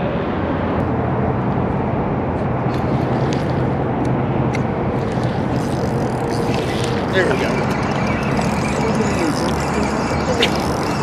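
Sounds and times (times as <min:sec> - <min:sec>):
low hum: 0:00.0 - 0:11.0
outdoor rumbling: 0:00.0 - 0:11.0.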